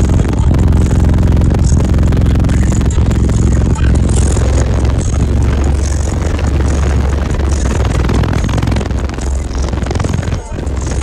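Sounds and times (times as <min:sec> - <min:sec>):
loud deep bass music: 0:00.0 - 0:11.0.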